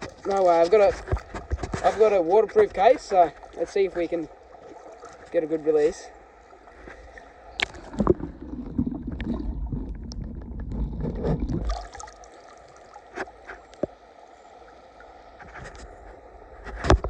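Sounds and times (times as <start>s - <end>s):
muffled water sloshing and gurgling: 0.0s - 17.0s.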